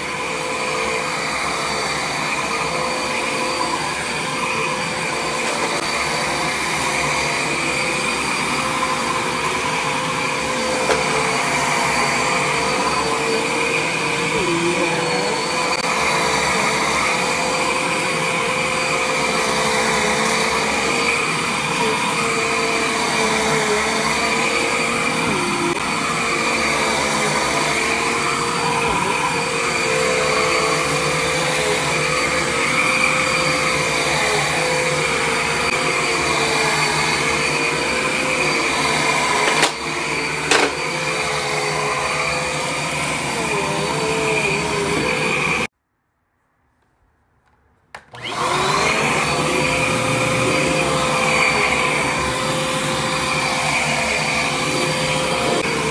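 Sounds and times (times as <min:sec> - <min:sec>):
vacuum cleaner motor whine: 0:00.0 - 0:45.8, 0:47.9 - 0:55.9.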